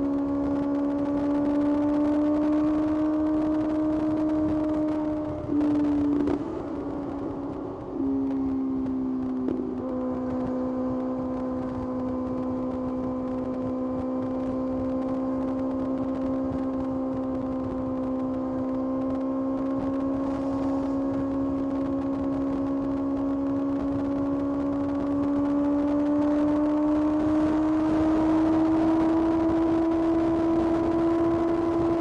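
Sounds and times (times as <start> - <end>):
motorcycle engine cruising: 0.0 - 32.0.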